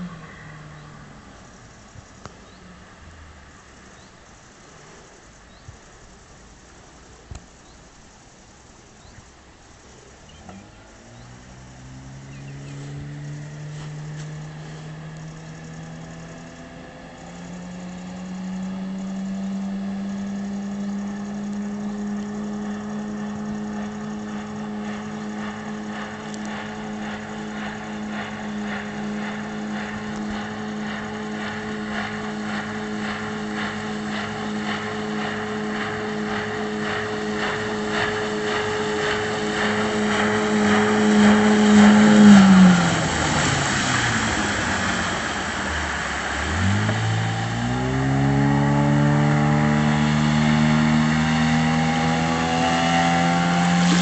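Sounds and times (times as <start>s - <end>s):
outboard motor throttling up: 0.0s - 54.0s.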